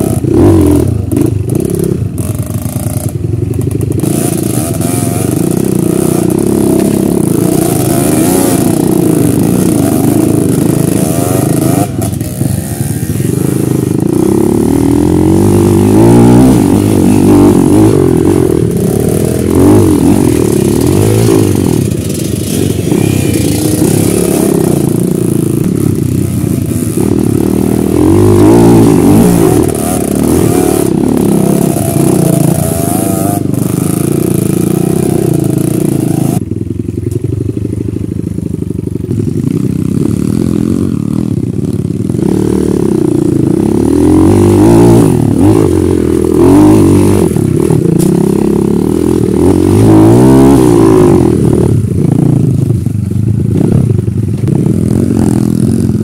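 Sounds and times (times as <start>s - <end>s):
dirt bike engine revving: 0.0s - 36.7s, 39.2s - 56.0s.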